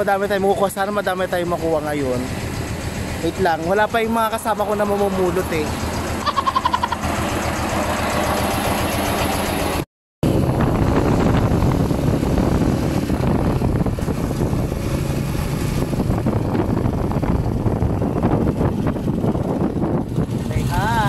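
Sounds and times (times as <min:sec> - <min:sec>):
motorcycle engine: 0:00.0 - 0:21.0
road rumble: 0:00.0 - 0:21.0
wind: 0:00.0 - 0:21.0.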